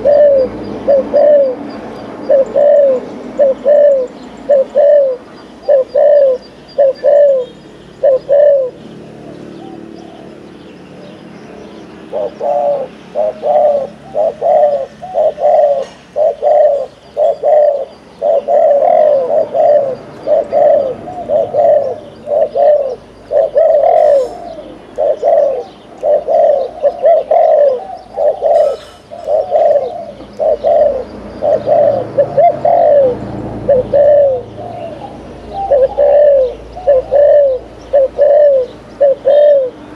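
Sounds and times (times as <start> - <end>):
dove cooing: 0.0 - 11.3, 12.0 - 39.9.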